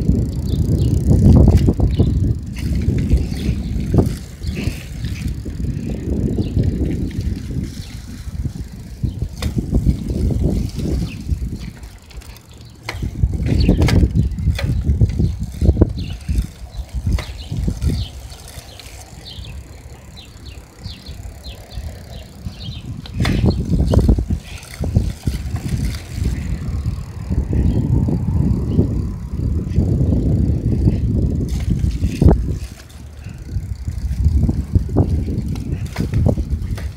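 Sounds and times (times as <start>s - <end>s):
bicycle tyres rumbling on pavement: 0.0s - 36.9s
bike clicks and rattles: 0.0s - 36.9s
wind on microphone: 0.0s - 36.9s.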